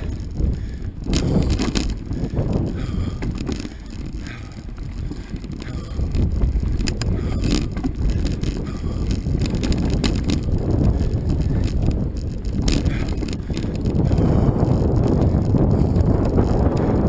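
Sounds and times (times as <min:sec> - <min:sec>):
bike clicks and rattles: 0:00.0 - 0:17.0
bike tyres rumbling on dirt: 0:00.0 - 0:17.0.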